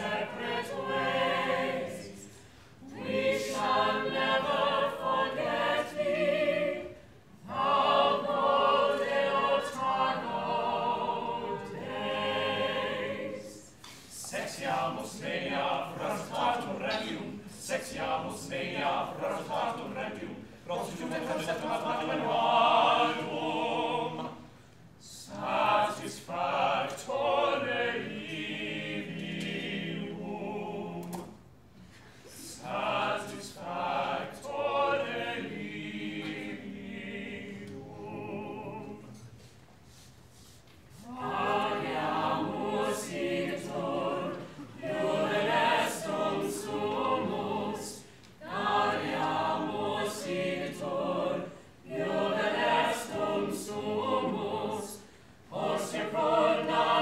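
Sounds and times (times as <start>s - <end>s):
mixed choir singing: 0.0s - 31.5s, 32.2s - 40.0s, 40.9s - 57.0s.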